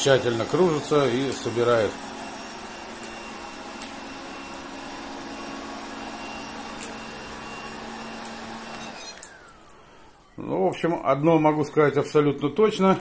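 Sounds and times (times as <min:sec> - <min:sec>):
robot vacuum humming: 0:00.0 - 0:11.9.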